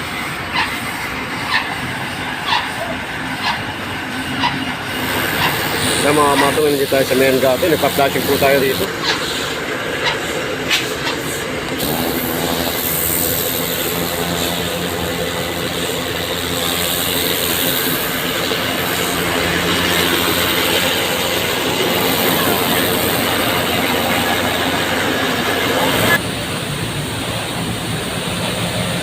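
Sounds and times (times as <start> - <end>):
motor humming: 0.0 - 26.2
water jet rushing on pavement: 0.0 - 29.0.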